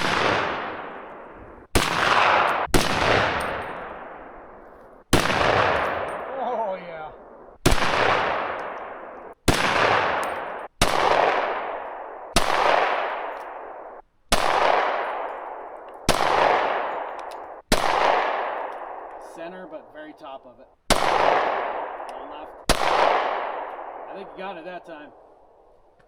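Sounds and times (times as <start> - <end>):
gunshots with long echo: 0.0 - 19.9, 20.9 - 25.9.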